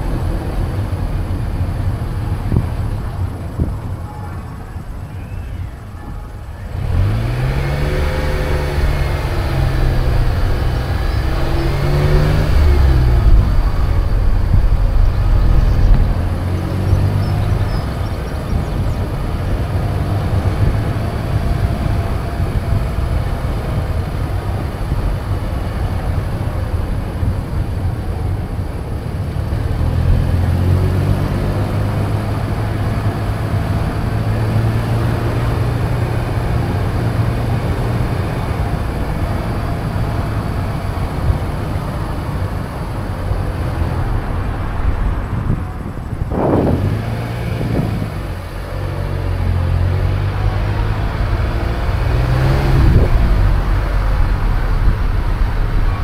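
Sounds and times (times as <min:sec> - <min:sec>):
car engine accelerating: 0:00.0 - 0:56.0
tyre and road noise: 0:00.0 - 0:56.0.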